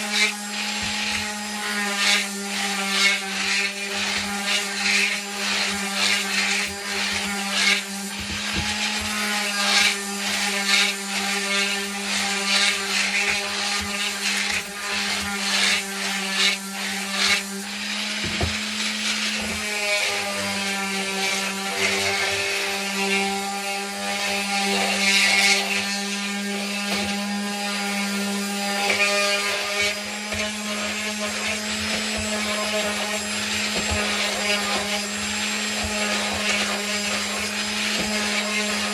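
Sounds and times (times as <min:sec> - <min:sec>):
power sander rasping on wood: 0:00.0 - 0:38.9.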